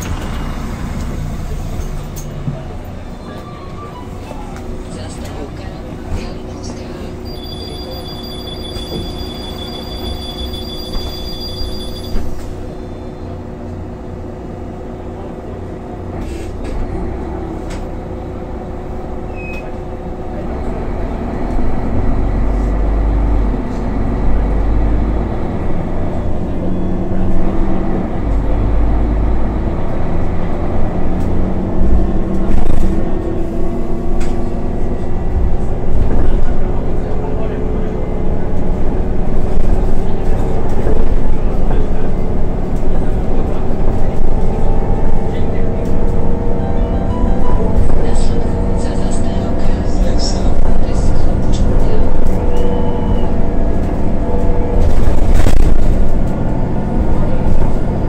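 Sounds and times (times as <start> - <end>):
bus engine running: 0.0 - 58.0.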